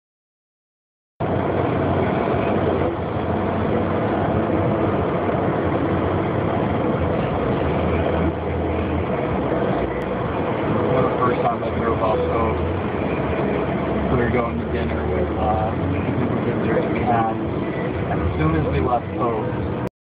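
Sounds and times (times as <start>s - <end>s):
car road and engine noise: 1.2s - 19.9s
low hum: 1.2s - 19.9s.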